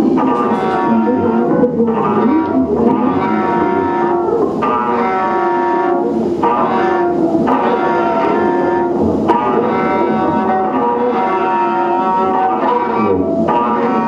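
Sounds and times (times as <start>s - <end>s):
distorted electronic tones: 0.0s - 14.0s
wavering low drone: 0.0s - 14.0s.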